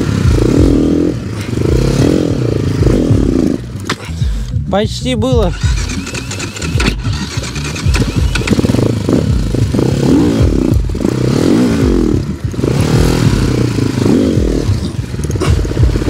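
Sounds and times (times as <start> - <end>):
motorcycle engine revving hard: 0.0 - 3.9, 5.4 - 16.0.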